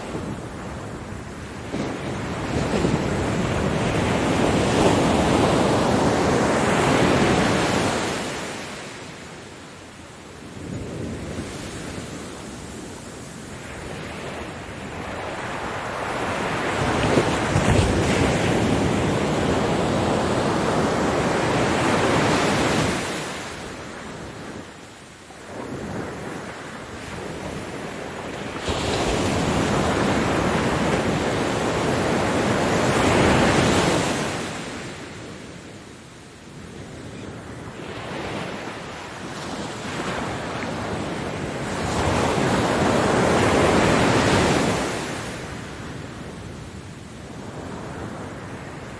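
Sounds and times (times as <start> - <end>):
ocean waves crashing on beach: 0.0 - 48.9.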